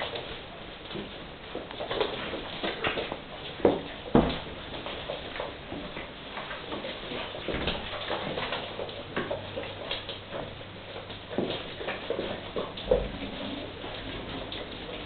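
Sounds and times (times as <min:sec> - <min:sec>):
puppies play-fighting scuffles: 0:00.0 - 0:15.0.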